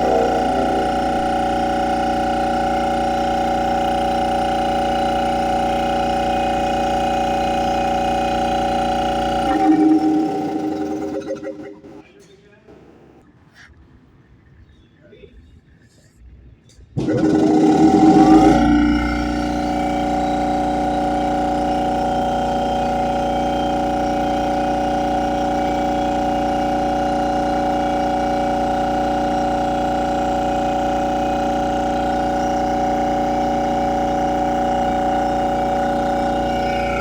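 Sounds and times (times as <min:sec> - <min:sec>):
compressor motor humming: 0:00.0 - 0:12.0, 0:17.0 - 0:37.0.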